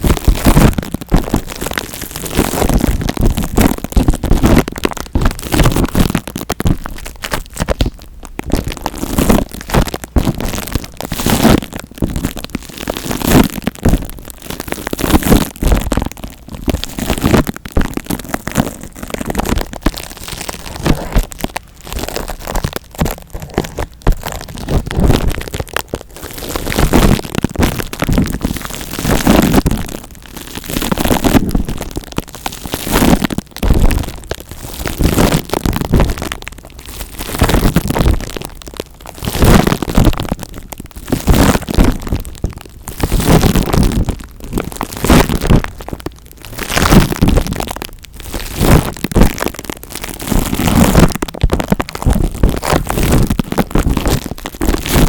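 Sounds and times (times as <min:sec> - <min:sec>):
scratching on microphone: 0:00.0 - 0:55.0.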